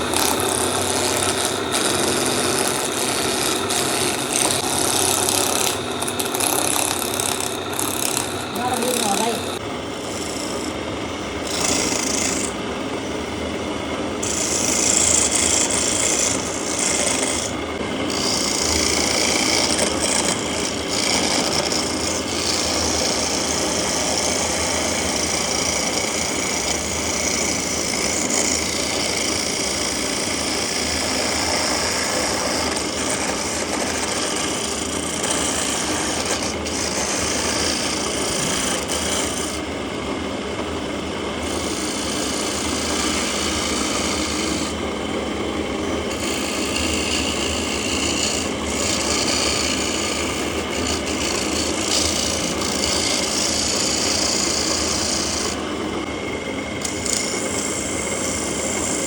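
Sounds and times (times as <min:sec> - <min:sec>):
tool rasping wood: 0:00.0 - 0:10.8, 0:11.4 - 0:12.6, 0:14.2 - 0:39.8, 0:41.4 - 0:44.9, 0:45.7 - 0:55.8, 0:56.8 - 0:59.0.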